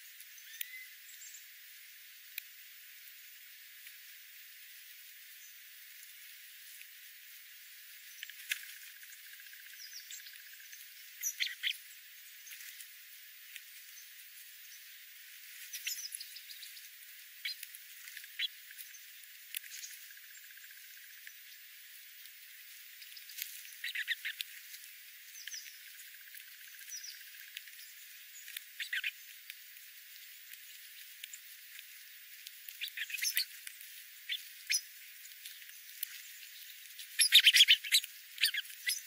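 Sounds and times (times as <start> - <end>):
small birds chirping: 0.0 - 39.0
steady hiss: 0.0 - 39.0.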